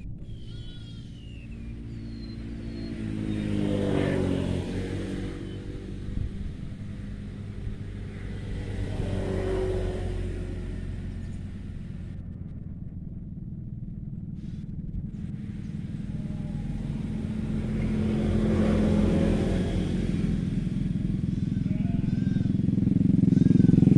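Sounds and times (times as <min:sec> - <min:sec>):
vehicles passing by: 0:00.0 - 0:23.9.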